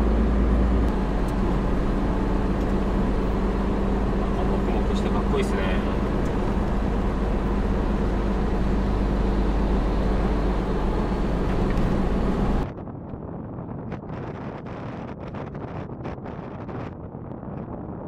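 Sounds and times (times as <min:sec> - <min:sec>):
truck engine drone: 0:00.0 - 0:15.0
road noise: 0:00.0 - 0:18.0
wind noise: 0:00.0 - 0:18.0.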